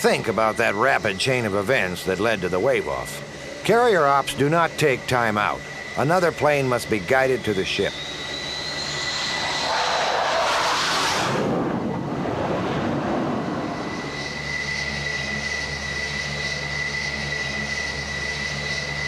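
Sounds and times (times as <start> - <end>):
jet engines whining: 0.0 - 19.0
jet flying over: 0.0 - 19.0.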